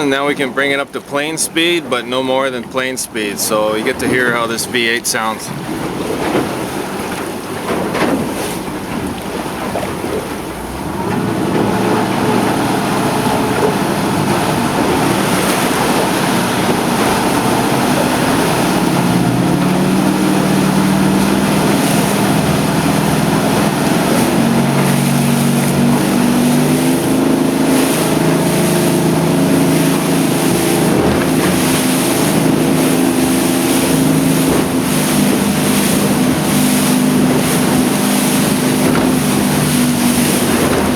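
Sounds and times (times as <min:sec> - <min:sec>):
outboard motor revving: 0:00.0 - 0:40.9
wind and water rushing: 0:00.0 - 0:40.9.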